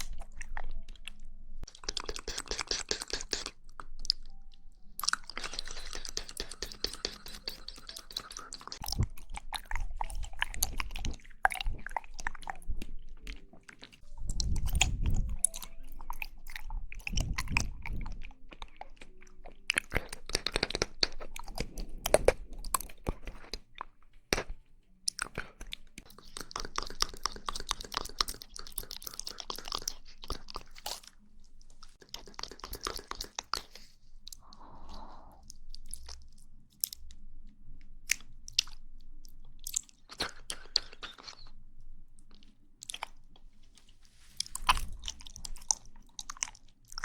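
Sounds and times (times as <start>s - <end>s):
wet chewing of jelly: 0.0s - 47.0s.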